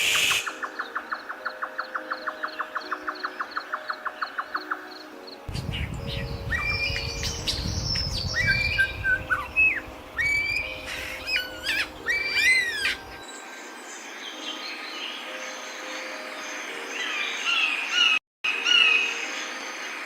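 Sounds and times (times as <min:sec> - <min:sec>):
birds squawking and chirping: 0:00.0 - 0:19.2.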